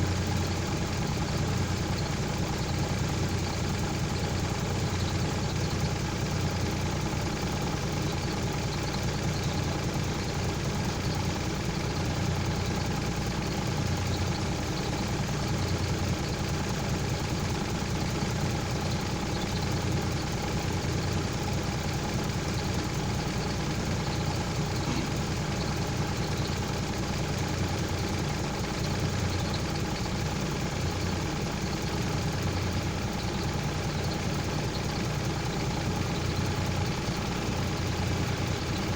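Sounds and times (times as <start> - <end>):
heavy engine idling: 0.0 - 38.9.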